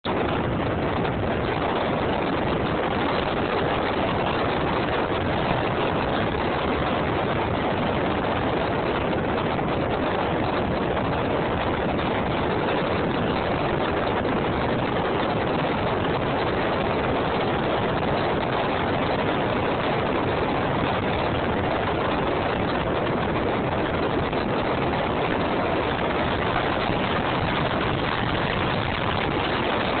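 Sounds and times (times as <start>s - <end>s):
ultralight aircraft engine drone: 0.0s - 30.0s.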